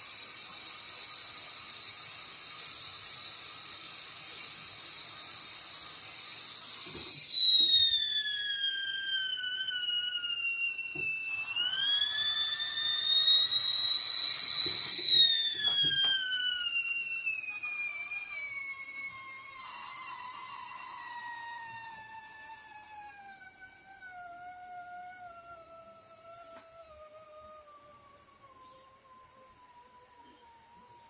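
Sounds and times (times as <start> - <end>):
kettle whistling: 0.0 - 31.0.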